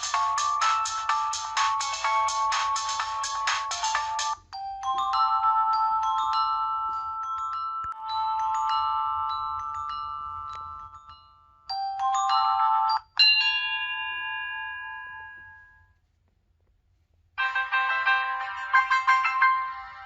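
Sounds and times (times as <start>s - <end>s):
bell-like ringtone chimes: 0.0s - 16.0s, 17.4s - 20.0s.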